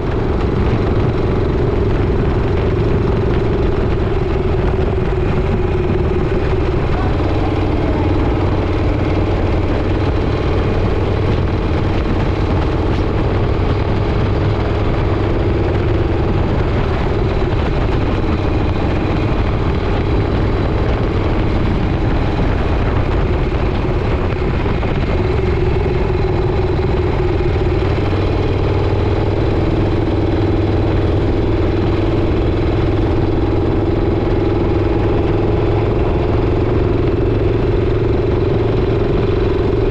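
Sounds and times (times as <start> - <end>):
motorcycle engine running: 0.0 - 39.9
road noise: 0.0 - 39.9
wind rush: 0.0 - 39.9.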